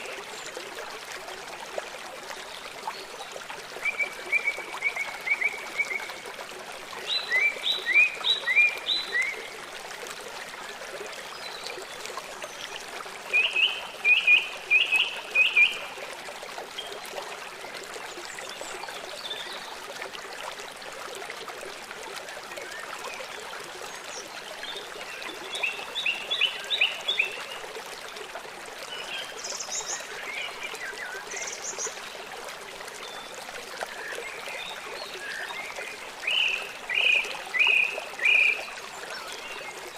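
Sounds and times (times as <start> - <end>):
running stream: 0.0 - 39.9.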